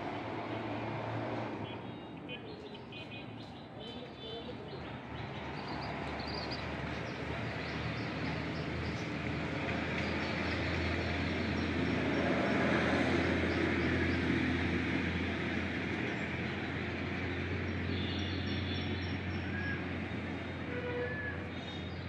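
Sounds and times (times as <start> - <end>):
passing vehicle rumble: 0.0 - 22.0.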